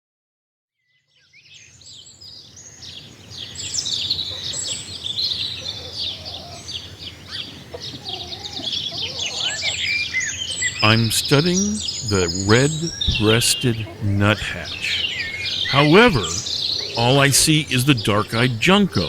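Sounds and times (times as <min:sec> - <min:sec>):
songbirds chirping: 0:00.8 - 0:19.0.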